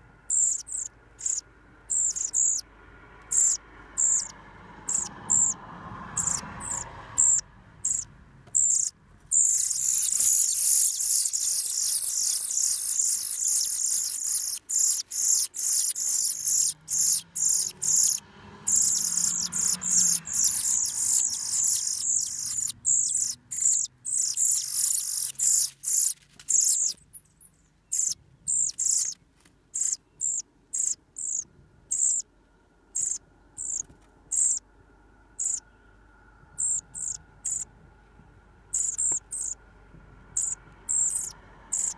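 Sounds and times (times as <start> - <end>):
nestlings high-pitched peeps: 0.3 - 2.6, 3.2 - 32.3, 33.0 - 34.6, 35.4 - 35.6, 36.6 - 37.7, 38.7 - 39.6, 40.4 - 41.9.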